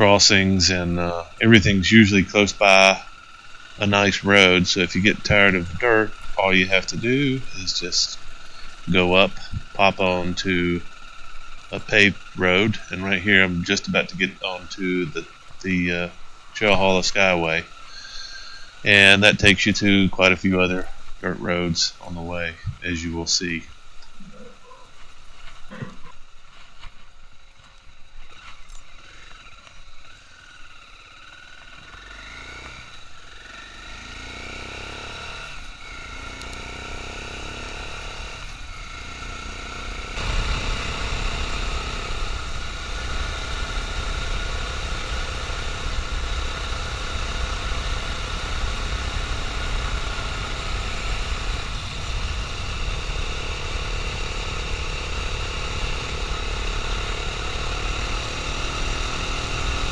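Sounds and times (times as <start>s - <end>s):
motorcycle engine shifting up gears: 0.0s - 26.6s, 27.4s - 59.9s
rush of riding at speed: 0.0s - 59.9s.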